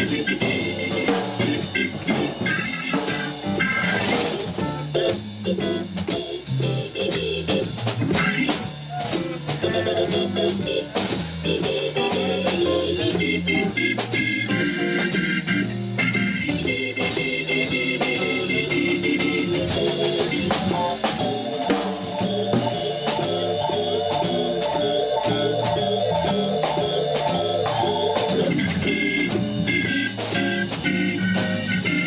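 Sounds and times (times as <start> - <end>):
drum kit cymbal strikes: 0.0 - 32.0
organ chords: 0.0 - 32.0.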